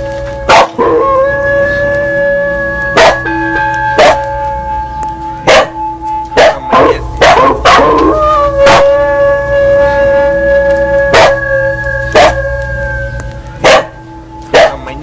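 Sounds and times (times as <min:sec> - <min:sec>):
dog howling: 0:00.0 - 0:14.8
bell ringing: 0:01.1 - 0:15.0.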